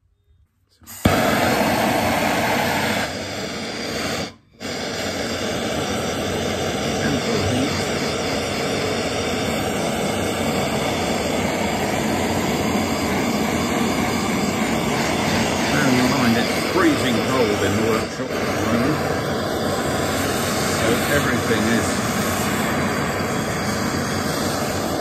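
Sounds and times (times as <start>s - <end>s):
blowtorch flame hissing: 0.9s - 25.0s.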